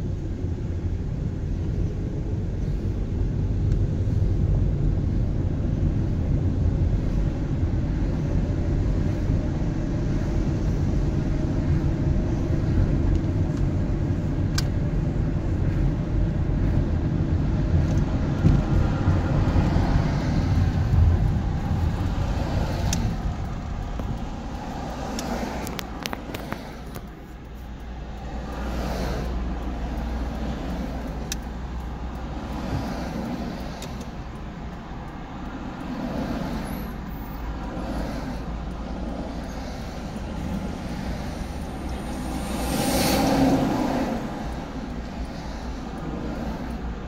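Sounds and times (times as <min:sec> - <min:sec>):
car road rumble: 0:00.0 - 0:47.0.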